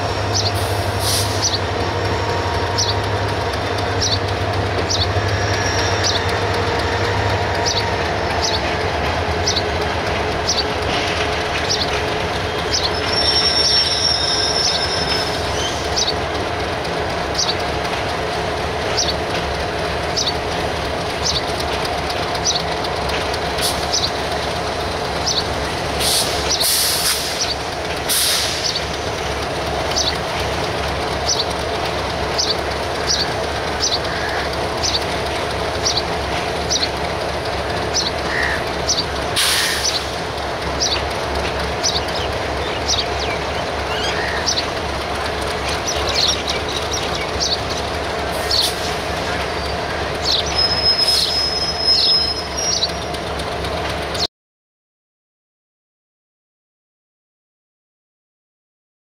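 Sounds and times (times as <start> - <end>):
wheels squeaking: 0.0 - 54.2
train rumbling and rattling: 0.0 - 54.3.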